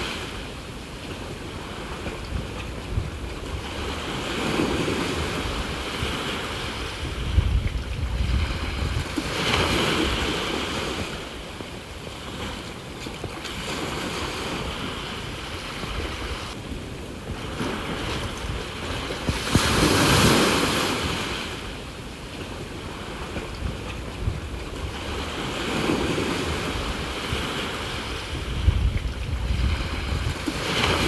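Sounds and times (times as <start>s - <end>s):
sea waves washing ashore: 0.0s - 31.0s
wind buffeting microphone: 0.0s - 31.0s.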